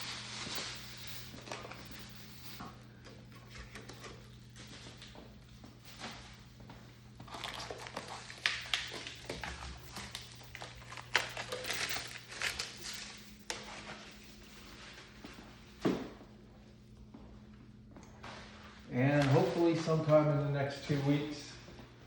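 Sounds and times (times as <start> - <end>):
plastic packaging rustling: 0.0 - 6.4, 7.2 - 15.5, 18.3 - 21.4.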